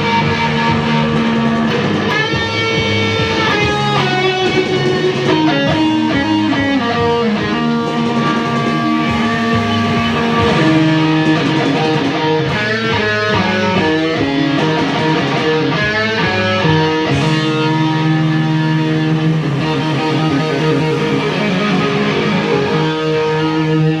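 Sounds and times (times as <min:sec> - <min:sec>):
rock electric guitar: 0:00.0 - 0:24.0.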